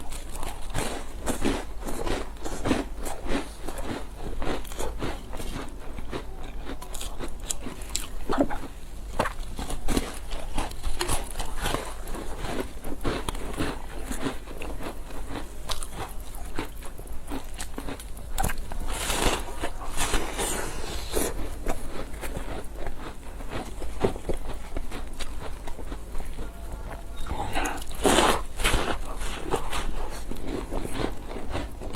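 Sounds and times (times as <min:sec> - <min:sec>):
person chewing crisp food: 0:00.0 - 0:31.9.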